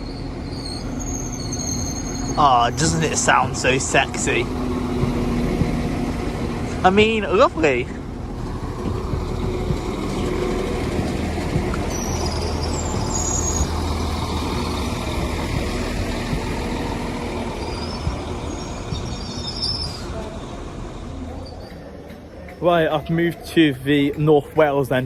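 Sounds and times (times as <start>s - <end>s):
faint high-pitched squeals: 0.0s - 8.2s, 9.2s - 24.8s
train engine humming: 0.0s - 25.0s.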